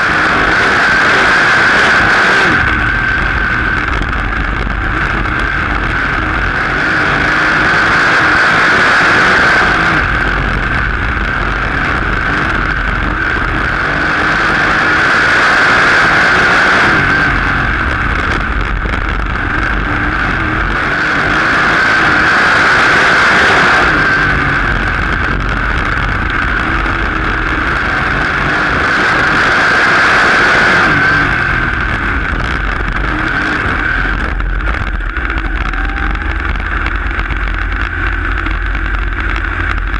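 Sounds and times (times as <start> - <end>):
racing car engine: 0.0 - 39.9.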